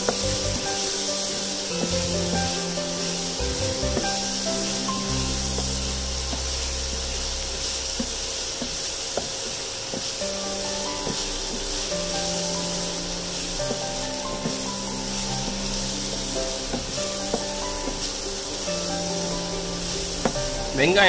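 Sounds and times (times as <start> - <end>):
background music with held notes: 0.0 - 9.3, 10.0 - 21.0
shallots sizzling in oil: 0.0 - 21.0.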